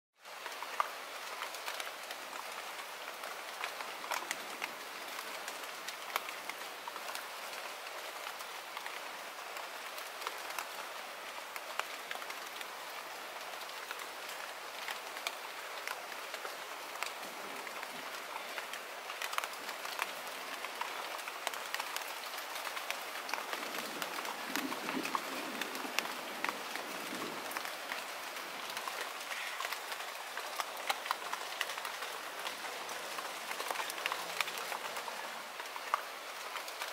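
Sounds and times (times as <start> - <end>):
light rain on a pond: 0.2 - 36.9
raindrops ticking: 0.3 - 10.8, 11.4 - 36.9.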